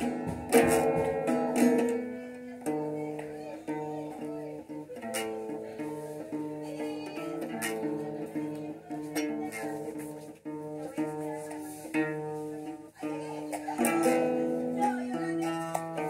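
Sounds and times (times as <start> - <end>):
plucked string chords music: 0.0 - 16.0.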